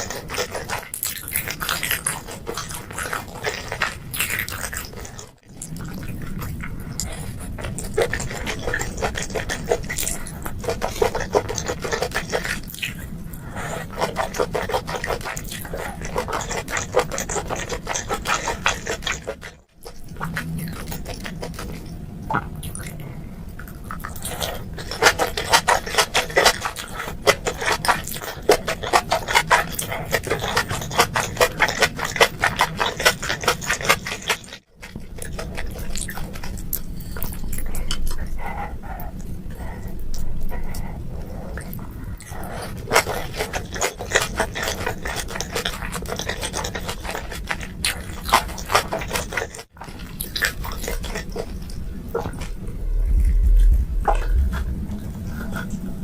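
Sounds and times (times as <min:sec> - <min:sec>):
wet chewing and mouth smacking: 0:00.0 - 0:56.0.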